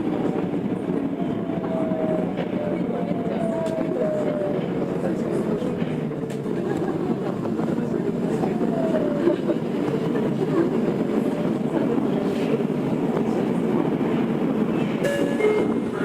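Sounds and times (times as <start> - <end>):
subway train wheels rumbling: 0.0 - 16.0.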